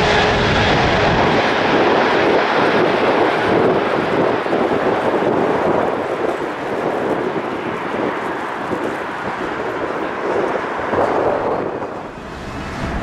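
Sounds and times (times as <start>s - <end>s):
jet engines running: 0.0s - 13.0s
wind on microphone: 0.0s - 13.0s.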